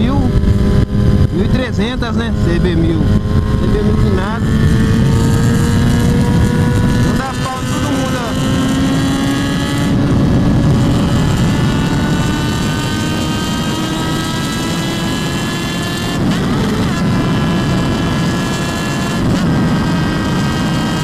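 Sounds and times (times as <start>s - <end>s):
motorcycle engine under load: 0.0s - 21.0s
wind rumble: 0.0s - 21.0s.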